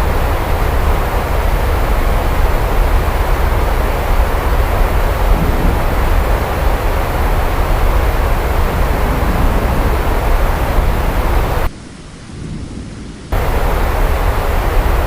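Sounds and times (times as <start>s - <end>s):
deep thunder rumble: 0.0s - 15.0s
heavy rain: 0.0s - 15.0s.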